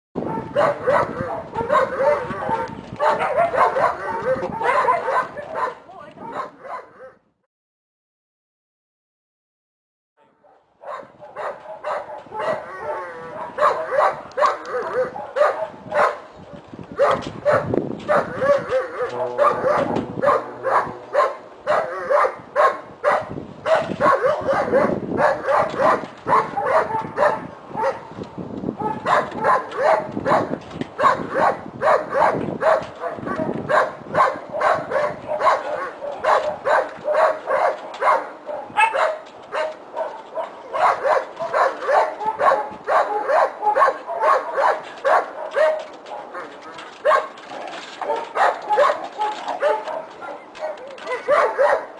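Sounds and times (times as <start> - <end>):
dogs barking and yipping: 0.2 - 7.2, 10.2 - 51.9.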